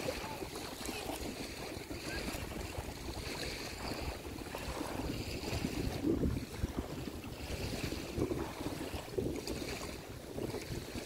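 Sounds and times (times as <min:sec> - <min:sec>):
small waves lapping: 0:00.0 - 0:11.0
wind buffeting microphone: 0:00.0 - 0:11.0.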